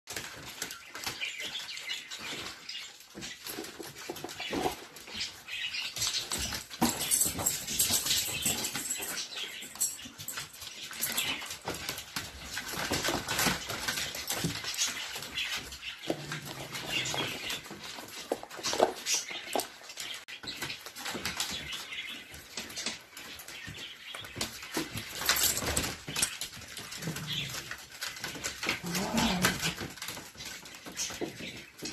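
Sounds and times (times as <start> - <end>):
paws clicking on plastic floor: 0.0 - 31.9.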